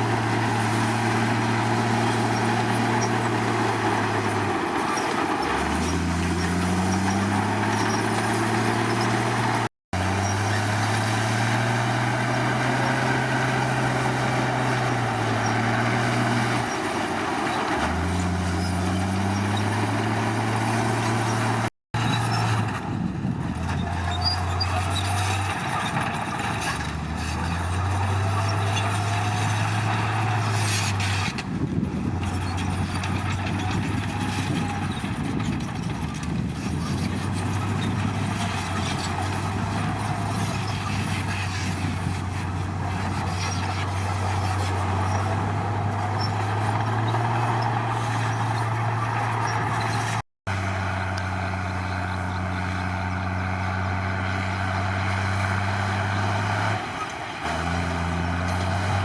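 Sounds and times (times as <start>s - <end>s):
bulldozer diesel engine revving: 0.0s - 59.0s.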